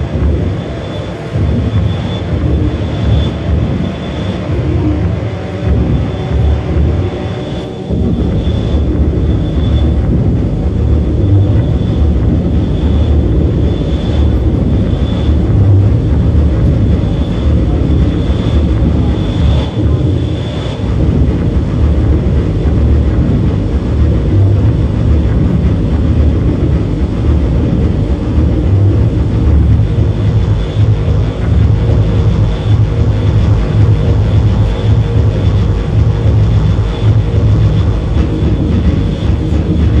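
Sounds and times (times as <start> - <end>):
drone electronic music: 0.0 - 40.0
faint high pulsing tone: 0.0 - 40.0.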